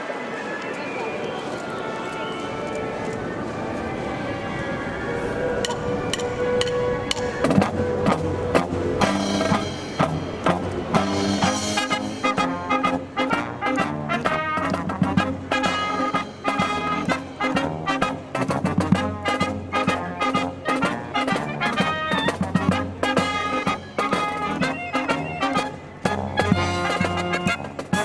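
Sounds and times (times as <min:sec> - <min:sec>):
brass marching band playing: 0:01.0 - 0:28.0.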